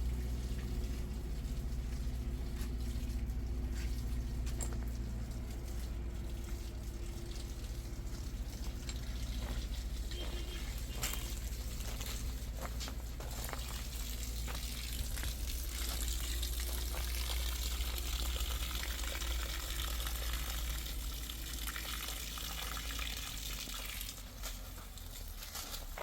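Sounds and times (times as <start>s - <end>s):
water running: 0.0s - 26.0s.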